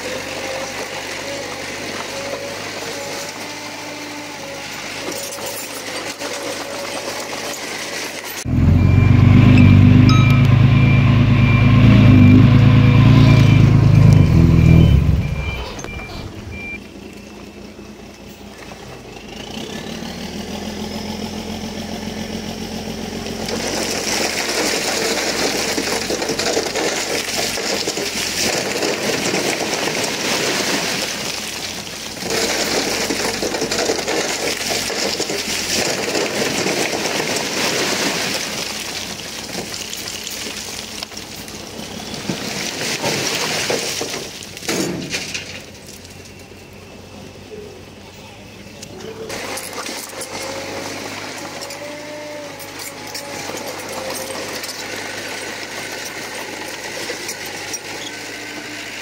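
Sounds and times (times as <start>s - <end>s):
diesel machinery engine running: 0.0s - 59.0s.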